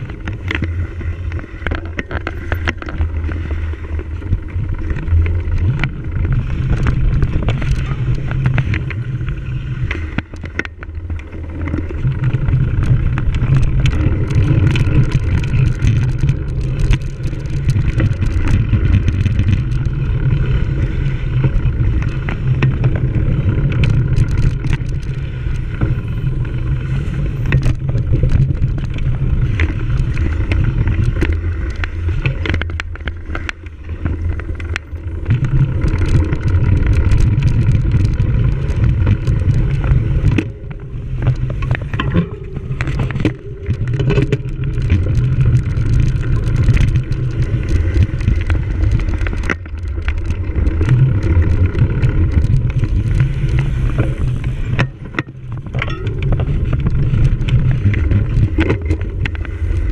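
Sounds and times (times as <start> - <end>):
bike rattling over rough ground: 0.0 - 59.9
wind on microphone: 0.0 - 59.9.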